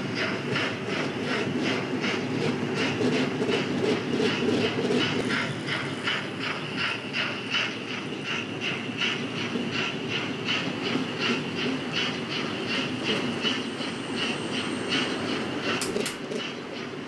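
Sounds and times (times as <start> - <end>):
model train rumbling on track: 0.0 - 17.0
steam exhaust chuffs: 0.0 - 17.0.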